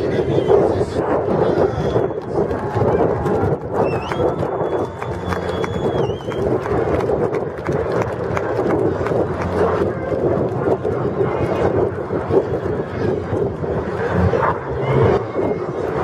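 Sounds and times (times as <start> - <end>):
distant airplane engines droning: 0.0 - 16.0.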